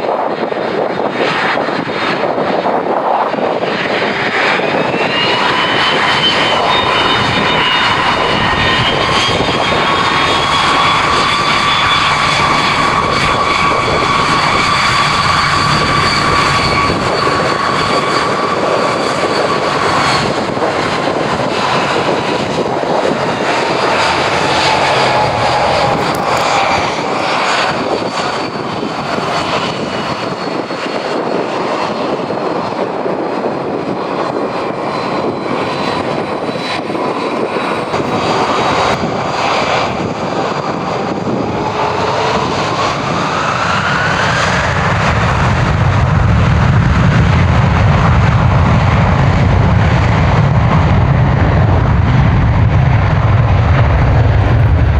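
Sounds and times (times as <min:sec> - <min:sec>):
deep jet rumble: 0:00.0 - 0:54.9
jet engine whine: 0:00.0 - 0:54.9.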